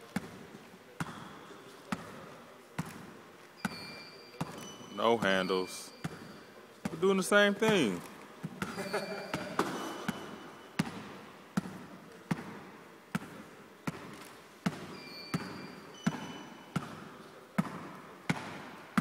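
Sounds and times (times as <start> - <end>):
basketball bouncing: 0.1 - 0.4, 1.0 - 2.2, 2.8 - 19.0.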